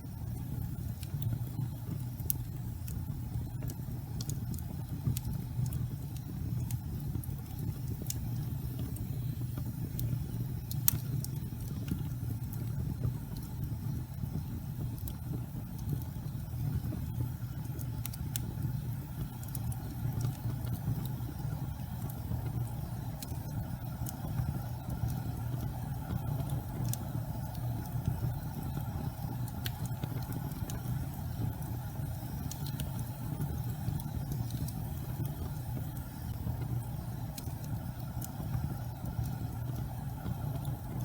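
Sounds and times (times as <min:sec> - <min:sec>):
faint crackles: 0:00.0 - 0:41.0
gas fire flames rumbling: 0:00.0 - 0:41.0.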